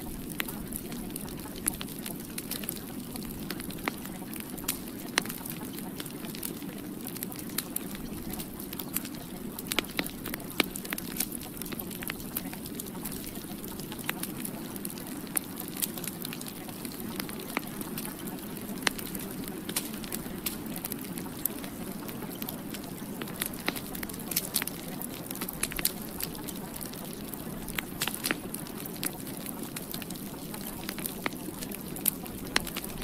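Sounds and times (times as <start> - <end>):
sharp crackles and pops: 0.0 - 33.0.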